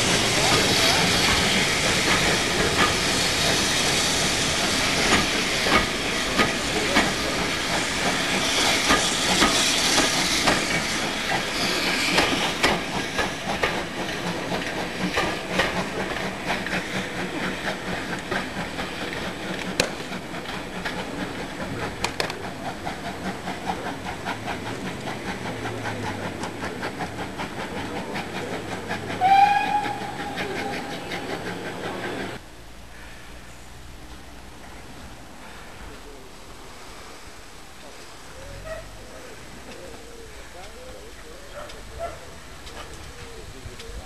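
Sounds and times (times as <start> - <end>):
train wheels clicking over rail joints: 0.0 - 32.4, 40.6 - 44.0.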